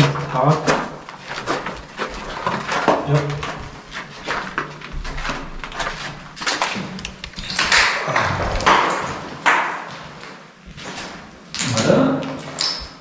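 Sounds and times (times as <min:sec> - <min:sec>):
footsteps crunching over debris: 0:00.0 - 0:11.5.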